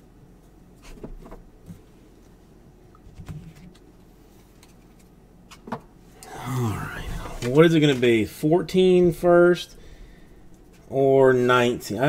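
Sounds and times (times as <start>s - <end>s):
low hum: 1.8s - 12.0s.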